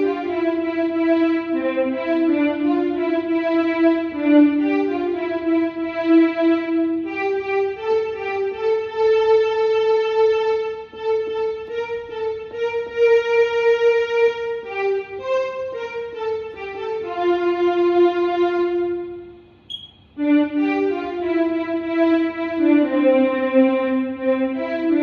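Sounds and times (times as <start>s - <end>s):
electronic keyboard slow melody: 0.0s - 25.0s.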